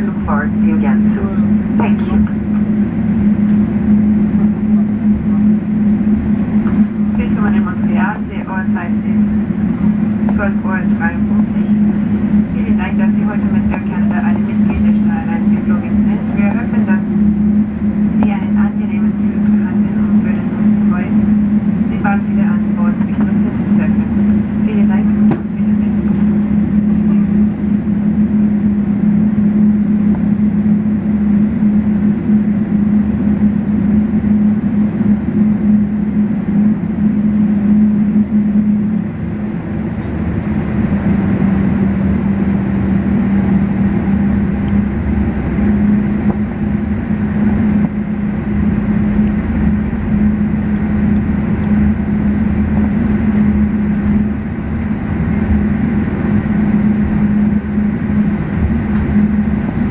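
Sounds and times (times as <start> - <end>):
aircraft cabin engine drone: 0.0 - 59.9
wheels rumbling on taxiway: 0.0 - 59.9.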